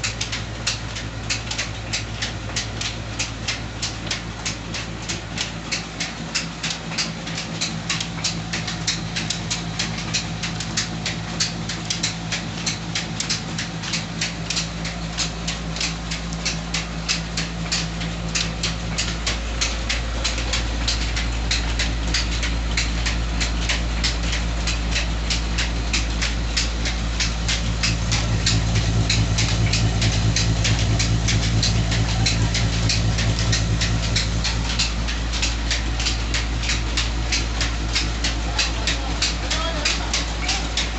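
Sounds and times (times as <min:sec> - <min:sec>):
stone flour mill running: 0:00.0 - 0:40.9.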